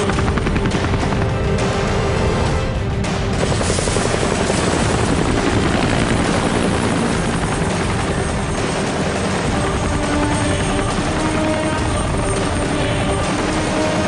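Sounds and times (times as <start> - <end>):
helicopter rotors chopping: 0.0 - 14.0.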